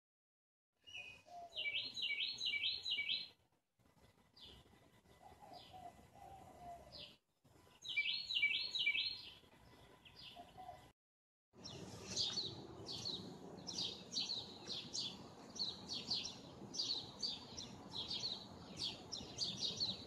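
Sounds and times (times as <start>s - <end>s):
songbird singing: 0.8s - 3.4s, 4.3s - 10.9s, 11.6s - 20.0s.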